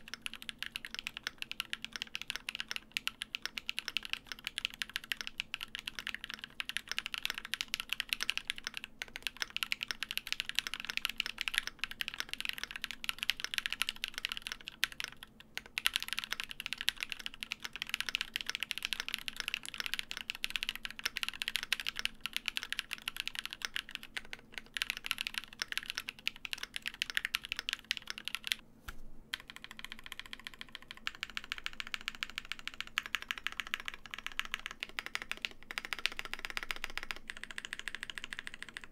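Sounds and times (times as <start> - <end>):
fast mechanical keyboard typing: 0.0 - 28.6, 29.3 - 38.9.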